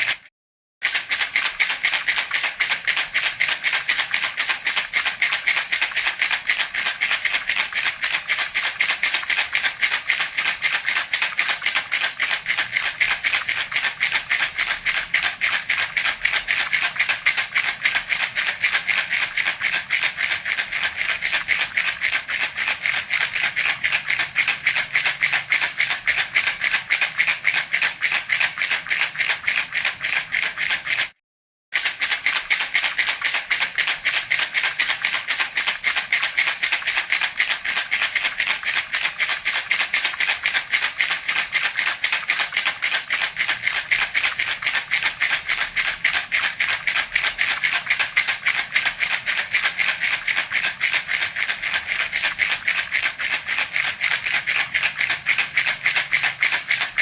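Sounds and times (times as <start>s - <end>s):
baby rattle shaken: 0.0s - 31.2s, 31.8s - 57.0s.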